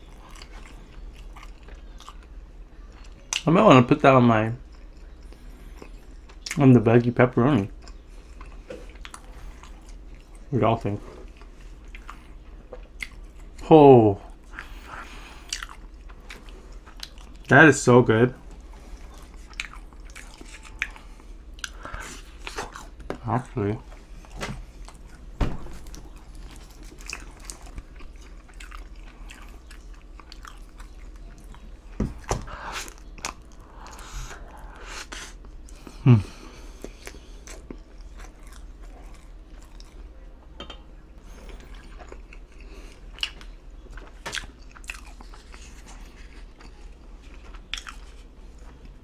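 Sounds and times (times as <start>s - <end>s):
chewing and biting crust: 0.0s - 3.4s, 7.6s - 13.6s, 14.4s - 17.5s, 18.4s - 23.1s, 23.9s - 40.2s, 41.3s - 49.0s.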